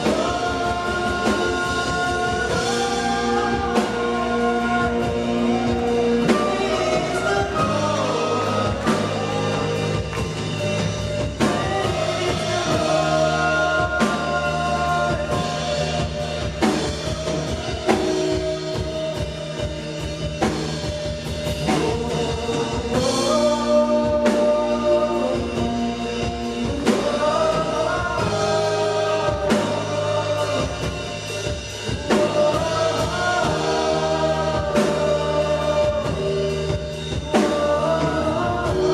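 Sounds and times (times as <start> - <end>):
drum kit beat: 0.0 - 38.9
voices singing: 0.0 - 38.9
worship band music: 0.0 - 38.9.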